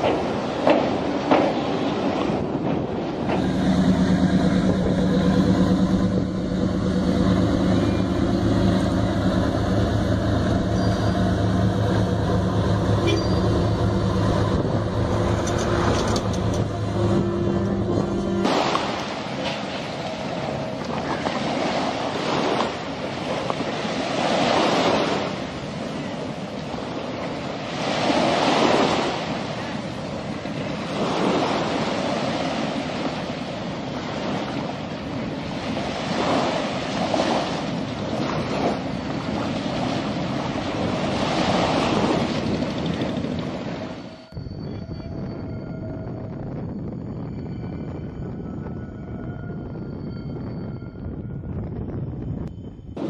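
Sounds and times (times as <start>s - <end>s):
waves breaking: 0.0s - 44.2s
wind: 0.0s - 53.0s.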